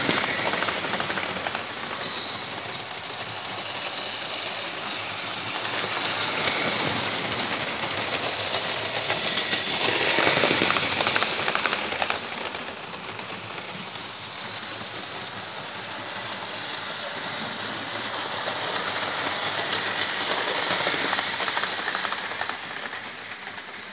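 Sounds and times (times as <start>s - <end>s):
model train rattling on track: 0.0s - 23.9s.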